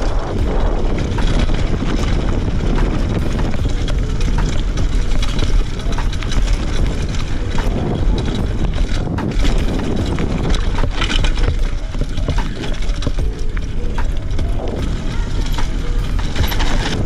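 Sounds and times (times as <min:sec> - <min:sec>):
bike chain and frame clattering: 0:00.0 - 0:17.0
tyres rolling over dirt and stones: 0:00.0 - 0:17.0
wind rumble on microphone: 0:00.0 - 0:17.0.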